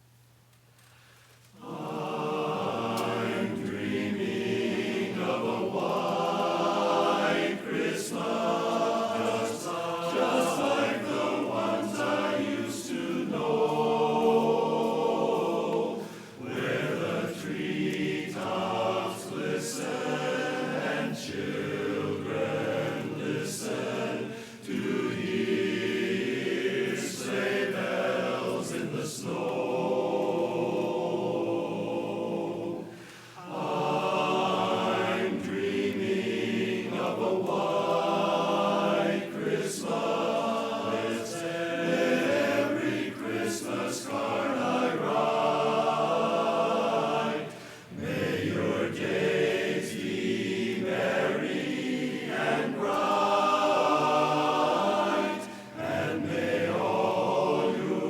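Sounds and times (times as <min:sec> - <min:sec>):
barbershop chorus singing a cappella: 0:01.6 - 0:58.0.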